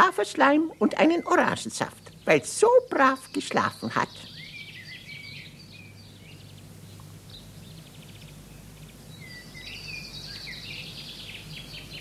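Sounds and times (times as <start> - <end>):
birds chirping and trilling: 0.0 - 12.0
steady low hum: 0.0 - 12.0.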